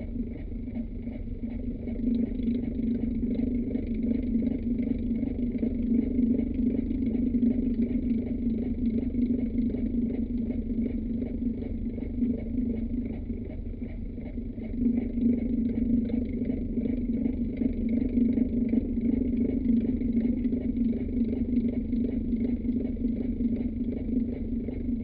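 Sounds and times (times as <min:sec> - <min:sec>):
fan humming with flutter: 0:00.0 - 0:25.0.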